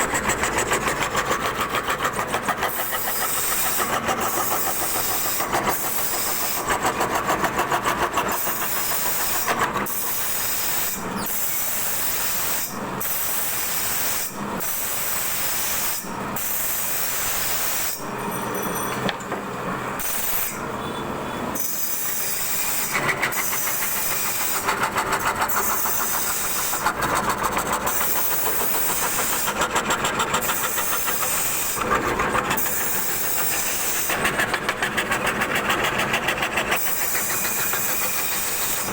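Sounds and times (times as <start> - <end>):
router cutting wood: 0.0 - 18.0, 21.6 - 38.9.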